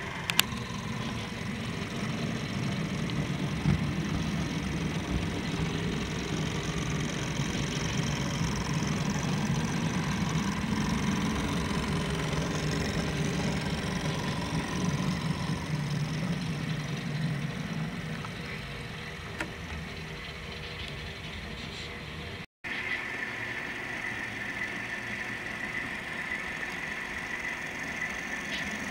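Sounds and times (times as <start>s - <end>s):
model train rumbling: 0.0s - 28.9s.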